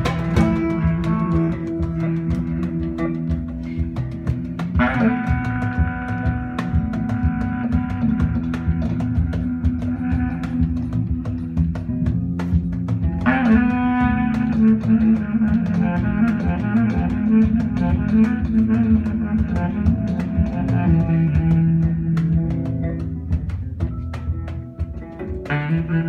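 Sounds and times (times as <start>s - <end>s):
bass guitar: 0.0s - 26.0s
drum kit beat: 0.0s - 26.0s
plucked string melody: 0.0s - 26.0s.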